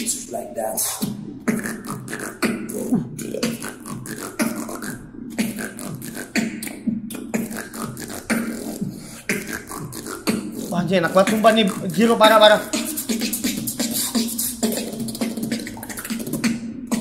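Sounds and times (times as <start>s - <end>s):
beatboxing: 0.0s - 17.0s.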